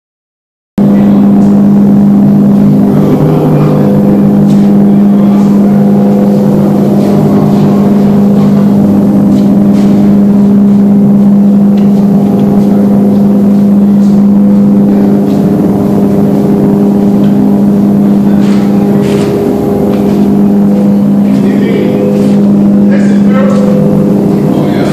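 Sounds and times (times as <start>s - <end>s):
ventilation fans humming: 0.8s - 24.9s.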